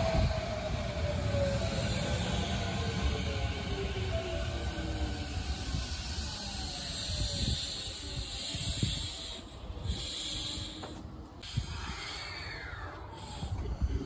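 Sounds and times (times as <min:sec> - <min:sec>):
electric train hiss and rumble: 0:00.0 - 0:14.0.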